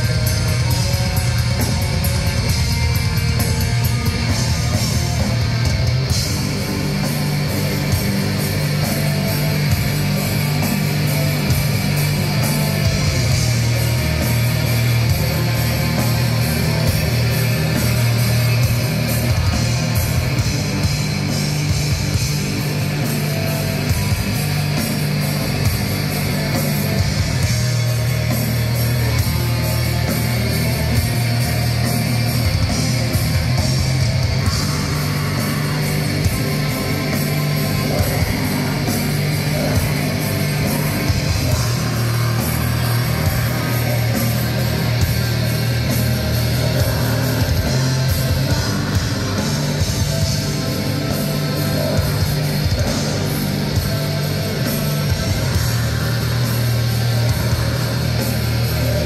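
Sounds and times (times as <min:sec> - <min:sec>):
heavy distorted guitars: 0:00.0 - 0:59.0
rapid drumming: 0:00.0 - 0:59.0.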